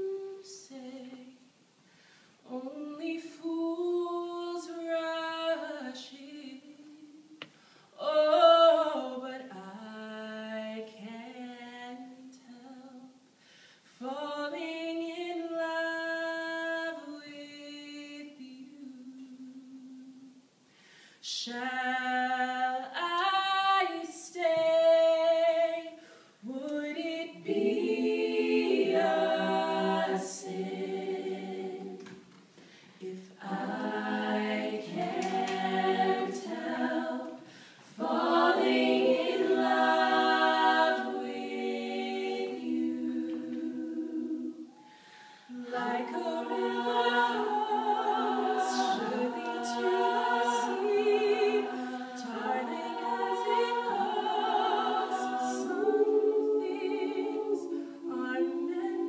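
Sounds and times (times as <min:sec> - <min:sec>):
person singing a cappella: 0:00.0 - 0:01.4, 0:02.5 - 0:13.2, 0:13.9 - 0:20.4, 0:21.2 - 0:32.1, 0:33.0 - 0:59.0
voices singing in harmony: 0:00.0 - 0:01.4, 0:02.4 - 0:13.2, 0:14.0 - 0:20.4, 0:21.2 - 0:59.0.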